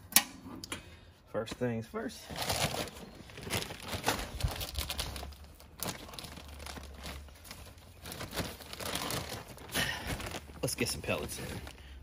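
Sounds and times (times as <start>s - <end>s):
plastic bag rustling: 2.2s - 12.0s.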